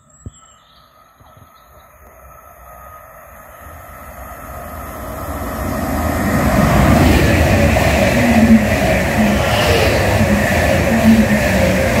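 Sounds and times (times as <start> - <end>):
electric train passing: 1.7 - 12.0.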